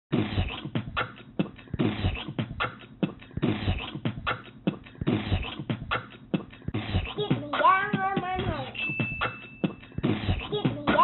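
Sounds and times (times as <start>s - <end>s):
percussive drum beat: 0.1s - 11.0s.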